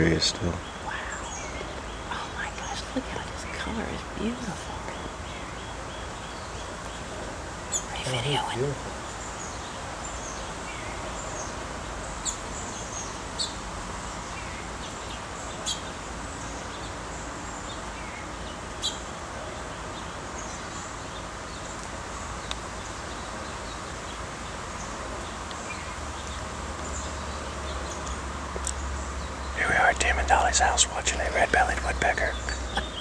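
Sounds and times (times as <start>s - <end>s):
faint bird chirps: 0.0s - 33.0s
outdoor hiss: 0.0s - 33.0s.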